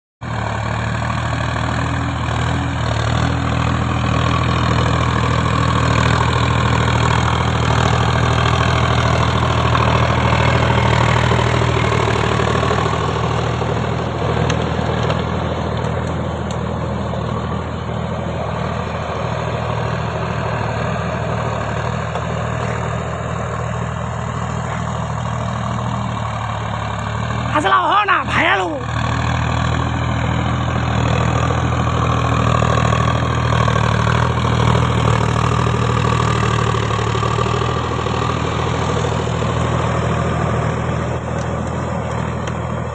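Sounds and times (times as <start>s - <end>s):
tractor engine idling: 0.2s - 42.9s.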